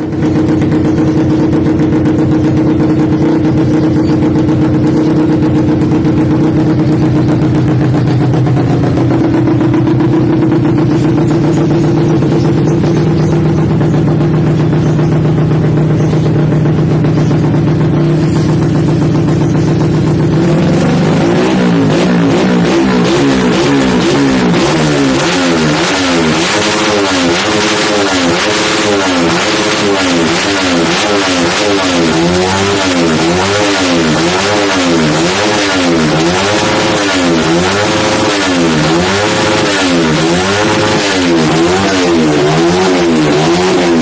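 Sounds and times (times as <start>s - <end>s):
motorcycle engine idling: 0.0s - 44.0s.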